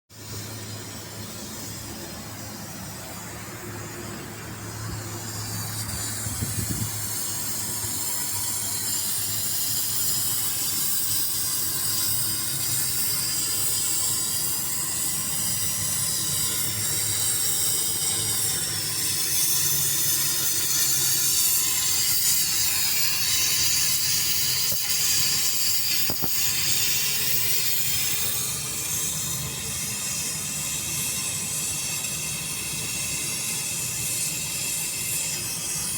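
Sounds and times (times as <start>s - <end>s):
high-pitched gas hiss: 0.2s - 35.9s.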